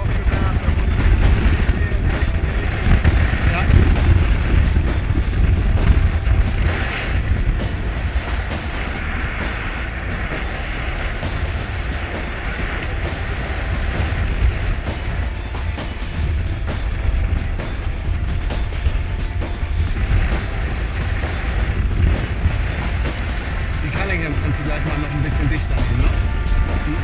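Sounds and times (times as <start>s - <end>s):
water rushing past boat hull: 0.0s - 27.0s
wind buffeting microphone: 0.0s - 27.0s.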